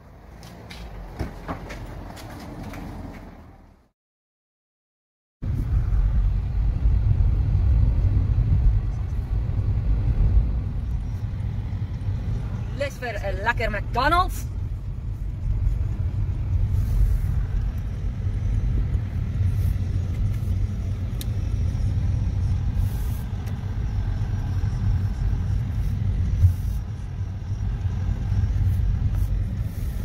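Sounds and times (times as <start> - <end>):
car engine and tyres rumbling: 0.0 - 3.9, 5.4 - 30.0.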